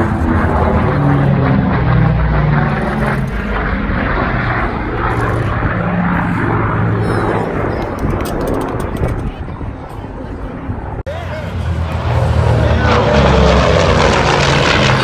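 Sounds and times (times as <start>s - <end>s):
airplane engine drone overhead: 0.0s - 15.0s.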